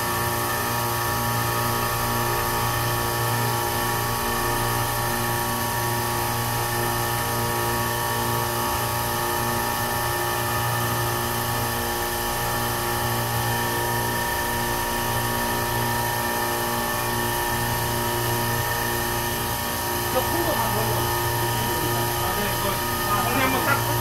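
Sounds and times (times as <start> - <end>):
machine humming with whine: 0.0 - 24.0.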